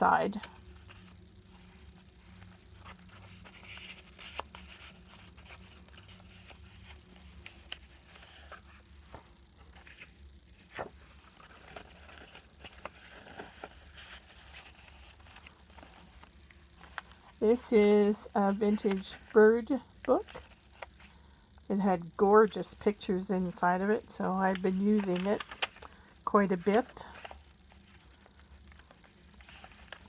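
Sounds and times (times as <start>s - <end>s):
low steady hum: 0.0s - 30.0s
paper pages rustling: 0.3s - 17.4s, 18.5s - 21.2s, 24.4s - 26.0s, 26.6s - 30.0s.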